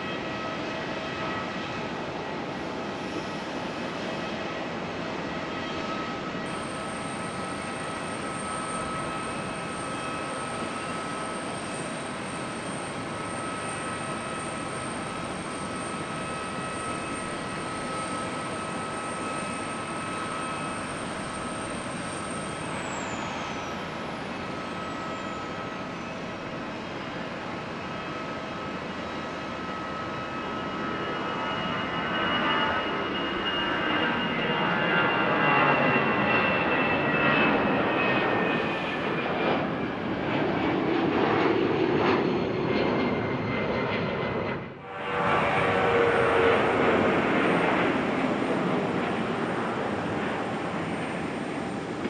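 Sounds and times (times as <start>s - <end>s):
jet airliner engines running: 0.0s - 52.0s.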